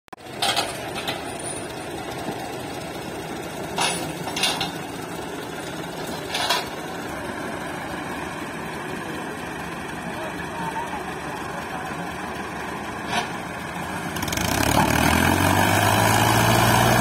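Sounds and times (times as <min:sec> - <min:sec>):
diesel tractor engines running: 0:00.1 - 0:17.0.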